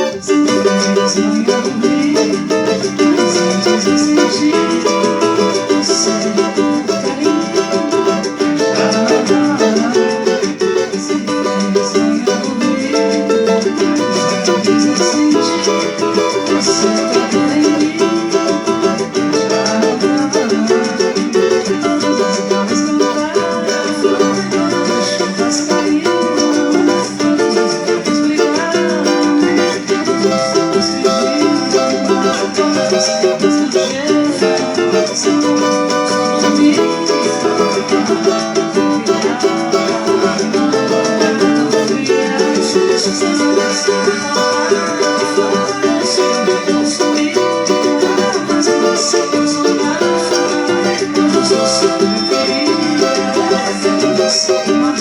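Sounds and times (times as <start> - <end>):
small guitar strumming chords: 0.0 - 55.0.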